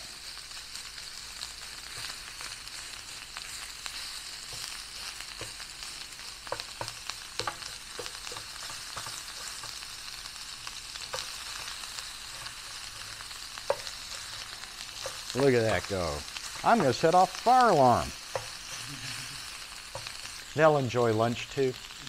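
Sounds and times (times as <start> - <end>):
gas burner: 0.0 - 22.0
meat sizzling in a pan: 0.0 - 22.0.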